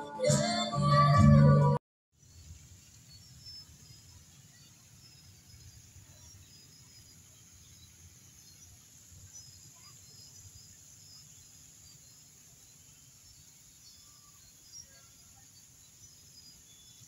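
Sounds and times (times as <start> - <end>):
faint high chirps: 2.2 - 17.0
high hiss: 2.2 - 17.0.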